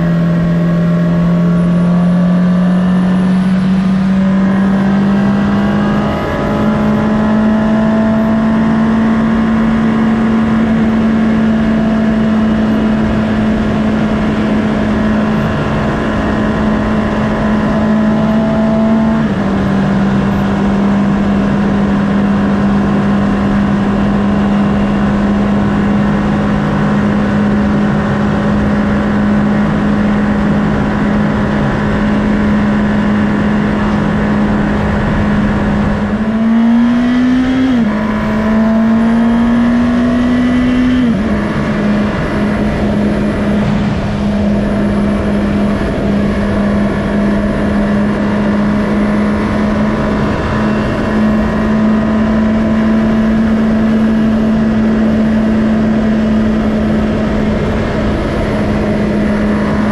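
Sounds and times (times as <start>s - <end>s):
motorcycle engine revving: 0.0s - 59.9s
wind noise: 2.6s - 59.9s.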